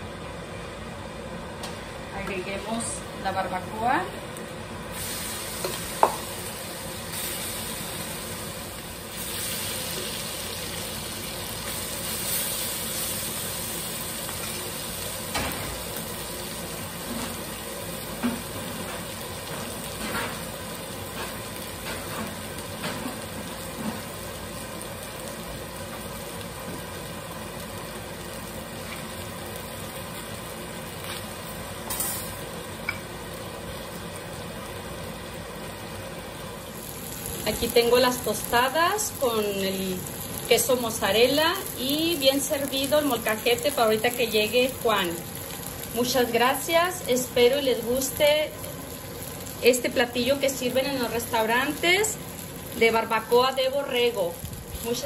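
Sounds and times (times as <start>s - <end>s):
meat sizzling: 4.1s - 55.0s.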